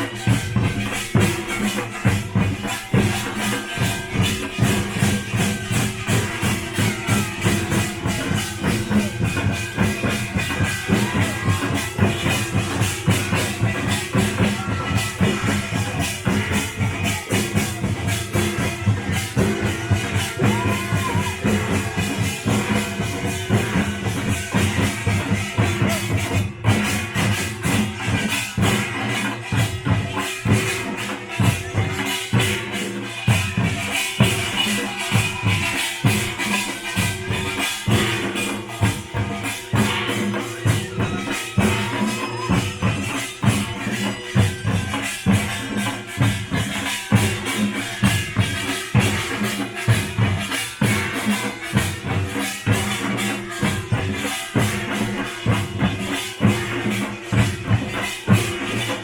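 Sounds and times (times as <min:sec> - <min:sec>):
drums in driving rhythm: 0:00.0 - 0:59.0.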